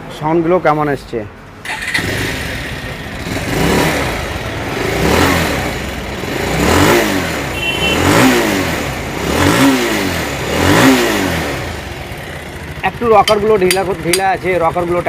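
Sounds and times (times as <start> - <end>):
motorcycle engine revving: 1.6 - 15.0.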